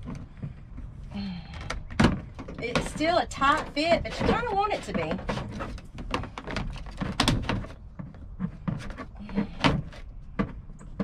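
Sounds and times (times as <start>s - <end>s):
plastic knocks clicks and rattles: 1.6s - 11.0s.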